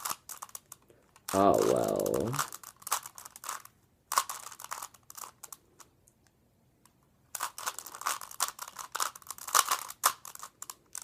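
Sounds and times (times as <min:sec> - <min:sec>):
puzzle cube clacking turns: 0:00.0 - 0:06.2, 0:06.8 - 0:11.0.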